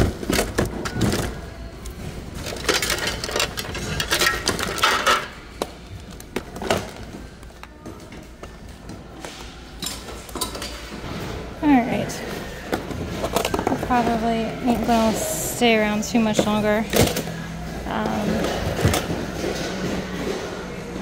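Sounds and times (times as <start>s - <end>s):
plastic items clattering in a bin: 0.0s - 8.5s, 12.2s - 20.8s.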